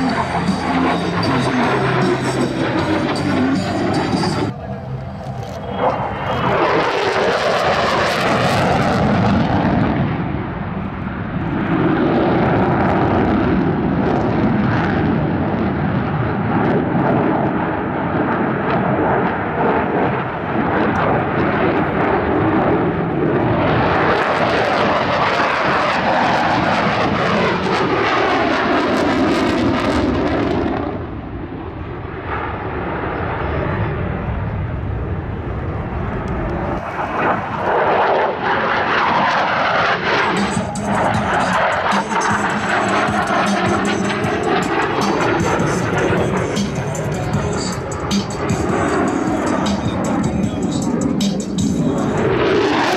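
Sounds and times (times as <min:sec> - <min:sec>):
jet engine rumbling: 0:00.0 - 0:52.9.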